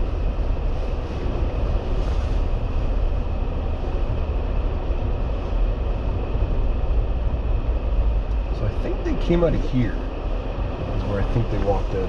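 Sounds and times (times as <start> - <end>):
low engine and road rumble: 0.0 - 12.0.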